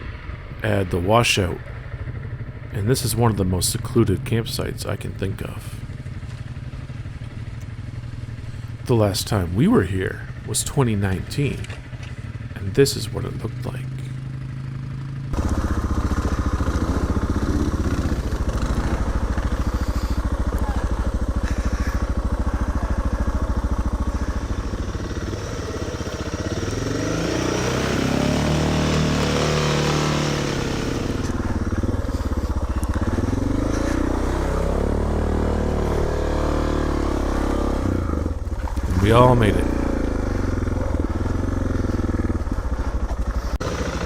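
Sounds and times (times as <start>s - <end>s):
off-road vehicle engines revving: 0.0s - 44.0s.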